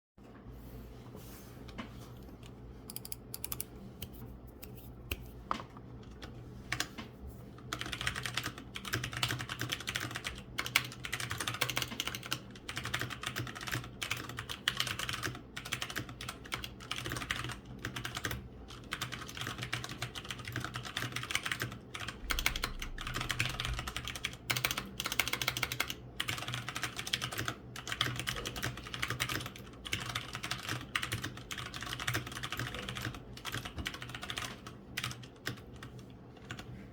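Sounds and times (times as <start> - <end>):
mechanical keyboard typing: 2.9 - 4.2, 7.7 - 36.7.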